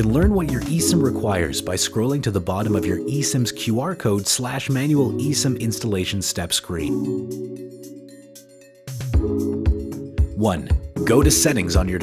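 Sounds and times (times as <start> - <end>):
background music chord: 0.0 - 12.0.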